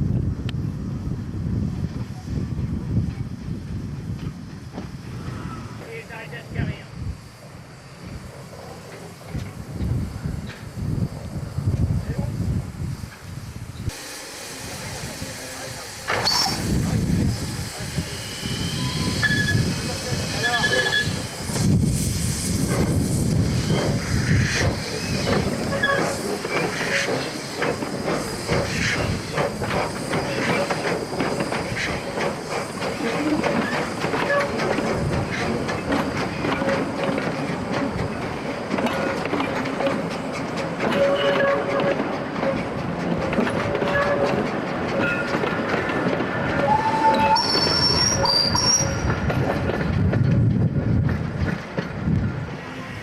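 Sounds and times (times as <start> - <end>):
steam hissing: 2.0 - 49.3
train wheels clicking over rail joints: 7.4 - 53.0.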